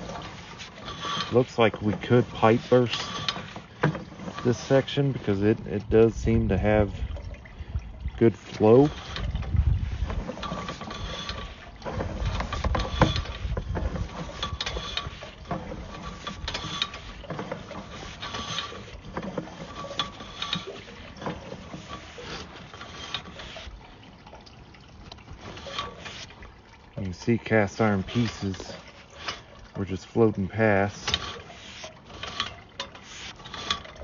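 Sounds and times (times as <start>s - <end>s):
cable clattering and knocking: 0.0s - 6.8s, 8.4s - 34.0s.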